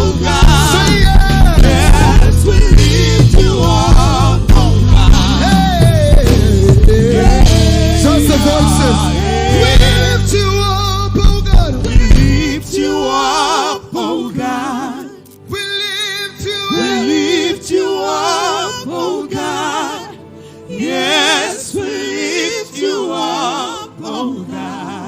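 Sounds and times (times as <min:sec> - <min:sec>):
gospel singing with vibrato: 0:00.0 - 0:25.0.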